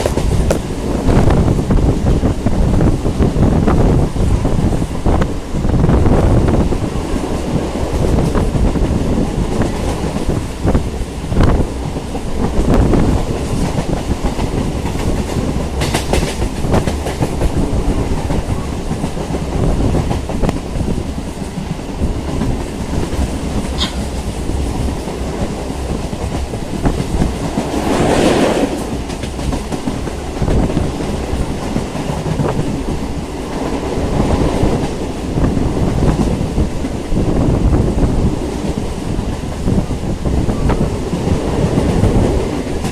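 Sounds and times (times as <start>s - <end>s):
electric train rumbling: 0.0s - 42.9s.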